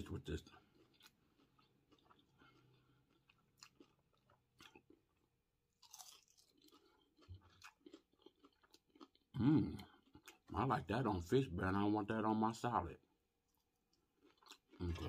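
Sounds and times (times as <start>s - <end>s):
person chewing and crunching food: 0.0s - 11.2s, 13.0s - 15.0s.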